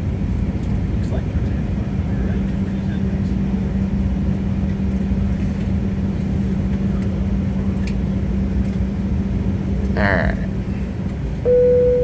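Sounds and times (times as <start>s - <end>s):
aircraft cabin engine hum: 0.0s - 12.0s.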